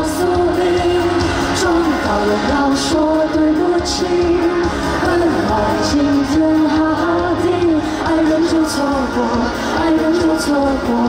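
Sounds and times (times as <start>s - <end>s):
live pop-rock band: 0.0s - 11.0s
person singing: 0.0s - 11.0s.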